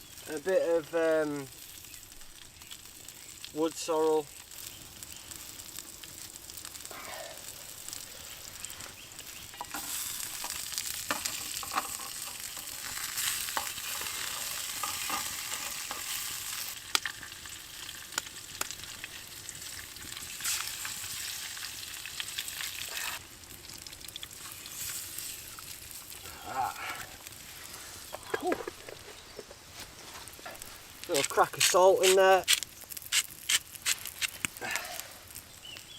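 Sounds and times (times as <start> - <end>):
mushrooms sizzling in a frying pan: 0.0 - 35.9.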